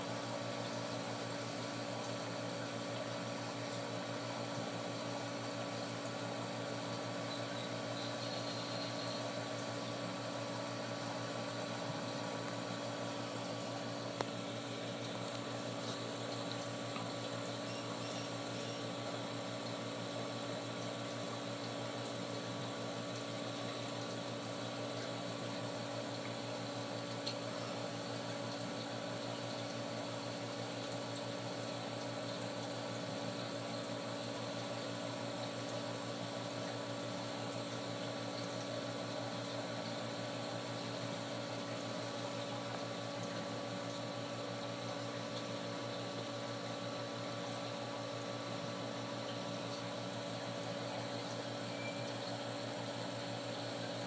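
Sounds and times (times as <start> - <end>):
aquarium pump hum: 0.0 - 54.0
water circulating: 0.3 - 54.0.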